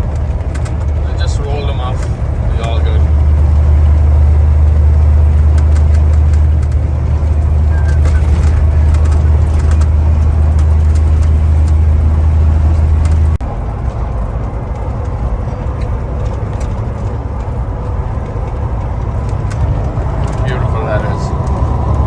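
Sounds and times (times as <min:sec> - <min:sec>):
road noise: 0:00.0 - 0:22.0
truck engine drone: 0:00.0 - 0:22.0.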